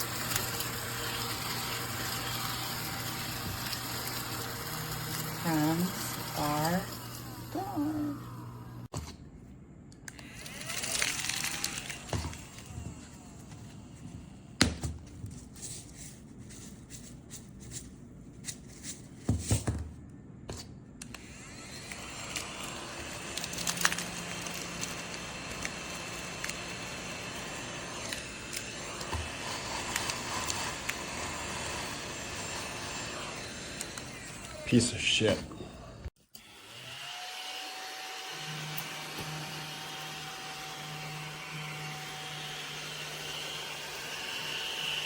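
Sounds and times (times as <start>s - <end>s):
mini vacuum cleaner whirring: 0.0s - 8.9s, 10.1s - 14.3s, 21.0s - 45.0s.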